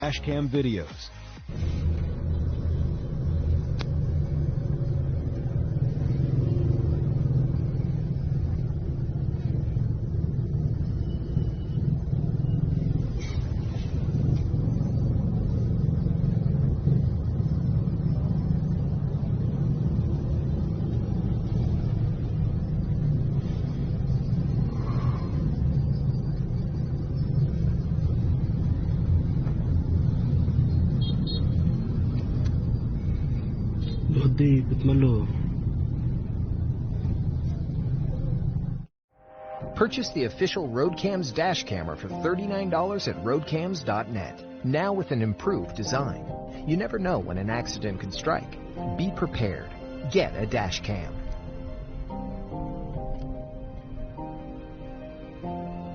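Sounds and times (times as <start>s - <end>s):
vehicle engine rumbling: 0.0s - 39.0s, 39.6s - 55.9s.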